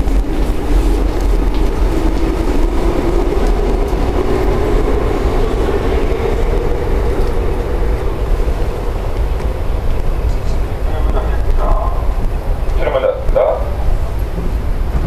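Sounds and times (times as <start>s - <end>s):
subway car rumble and hum: 0.0s - 15.0s.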